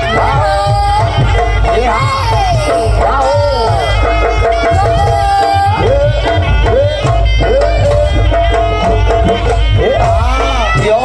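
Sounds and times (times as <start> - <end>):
hand drums beating: 0.0 - 11.0.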